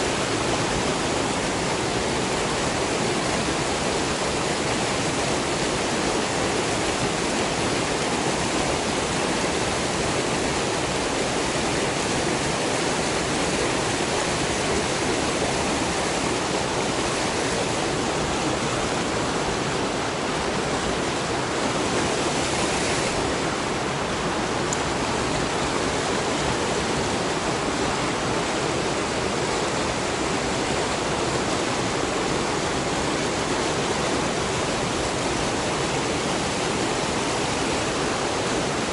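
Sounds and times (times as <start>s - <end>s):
river rapids rushing over boulders: 0.0s - 38.9s.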